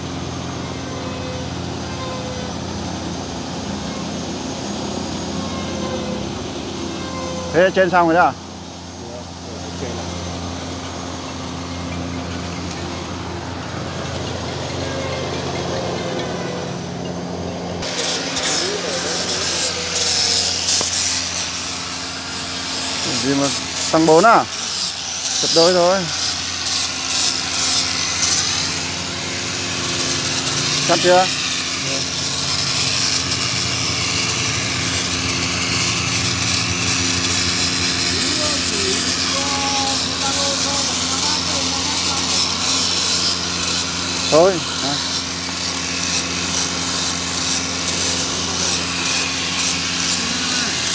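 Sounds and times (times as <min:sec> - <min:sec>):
engine humming steadily: 0:00.0 - 0:50.9.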